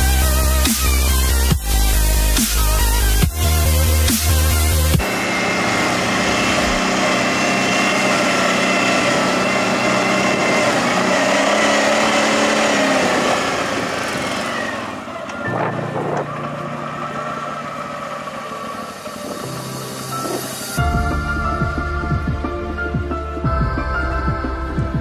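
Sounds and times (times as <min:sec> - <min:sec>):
quad engine running: 0:00.0 - 0:25.0.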